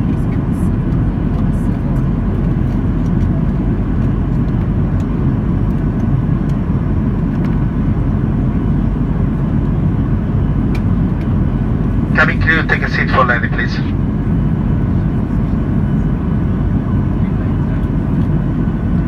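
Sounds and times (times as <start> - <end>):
jet engine cabin rumble: 0.0 - 19.0.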